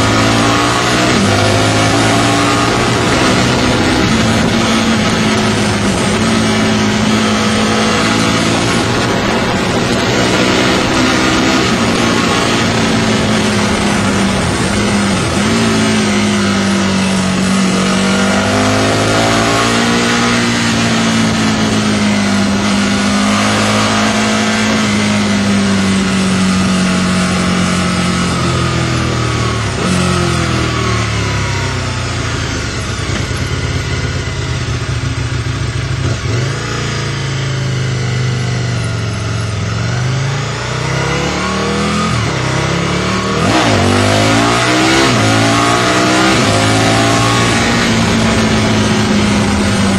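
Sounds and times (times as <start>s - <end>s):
motorcycle engine revving: 0.0s - 49.9s
wind noise: 0.0s - 49.9s.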